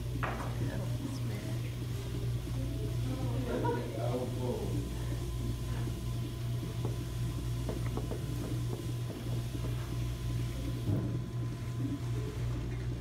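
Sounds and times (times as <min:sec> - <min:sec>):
pottery wheel humming: 0:00.0 - 0:13.0.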